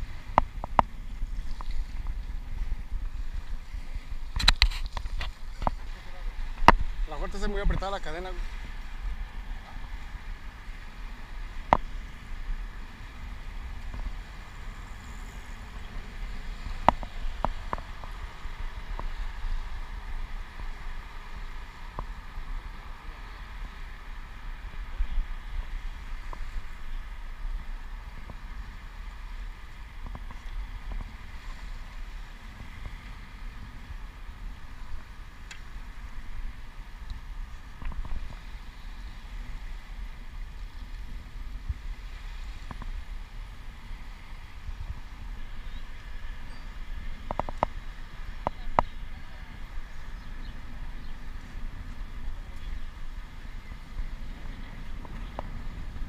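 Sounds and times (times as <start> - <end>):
bicycle rolling rumble: 0.0 - 56.0
wind rushing over microphone: 0.0 - 56.0.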